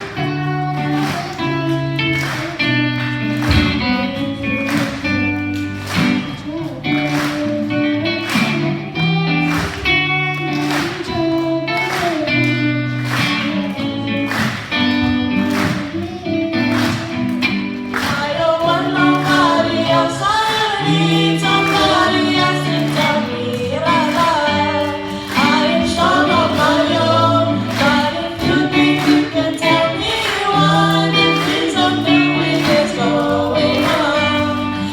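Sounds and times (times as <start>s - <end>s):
music with steady beat: 0.0s - 34.9s
sung vocals: 0.0s - 34.9s.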